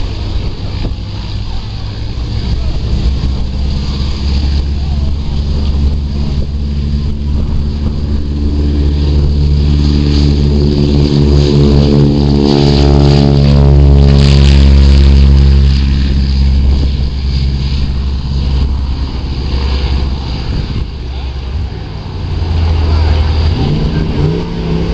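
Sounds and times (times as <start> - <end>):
piston aircraft engine: 0.0 - 24.9.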